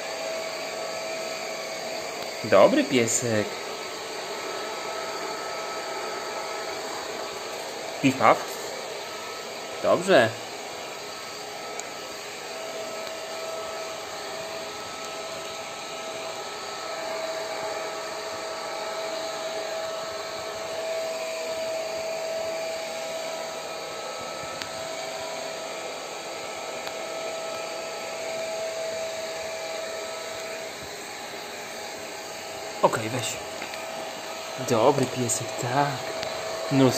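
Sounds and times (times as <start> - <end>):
hair dryer blowing: 0.0 - 36.9.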